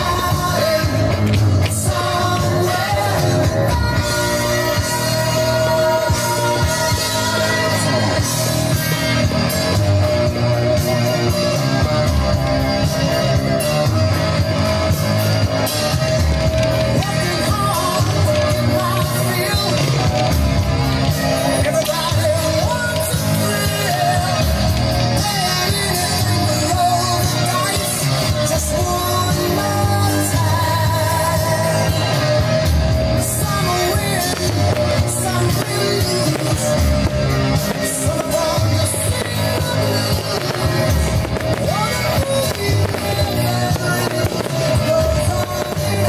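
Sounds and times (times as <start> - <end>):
rock music with singing: 0.0 - 46.0.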